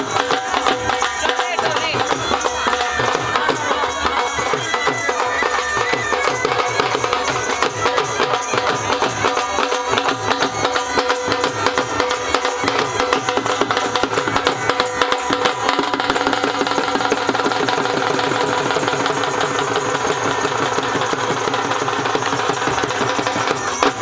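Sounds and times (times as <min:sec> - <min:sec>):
bagpipes playing folk melody: 0:00.0 - 0:24.0
fast drum beat: 0:00.0 - 0:24.0.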